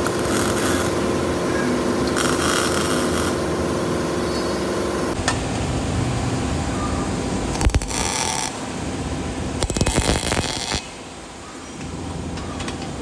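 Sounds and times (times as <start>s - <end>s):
workshop machinery humming: 0.0s - 13.0s.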